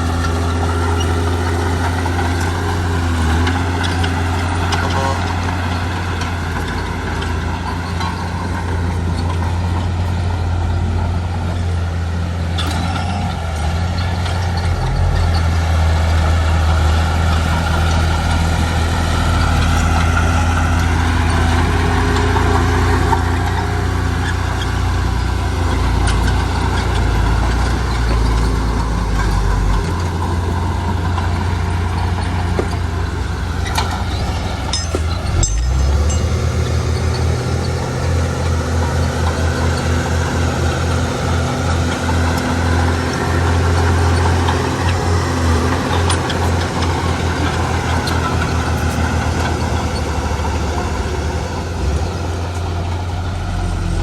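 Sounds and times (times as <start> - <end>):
diesel machinery engine drone: 0.0 - 54.0.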